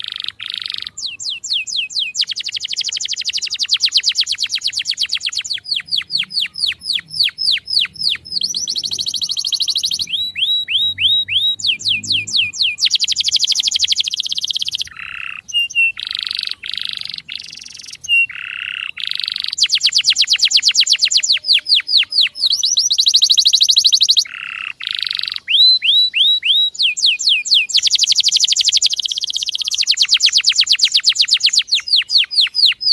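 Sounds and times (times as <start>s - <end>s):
canary singing trills: 0.0s - 32.9s.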